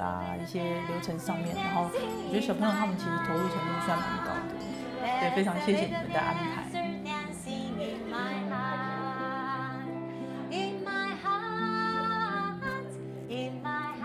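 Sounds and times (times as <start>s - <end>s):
acoustic guitar: 0.0s - 14.0s
woman singing: 0.0s - 14.0s.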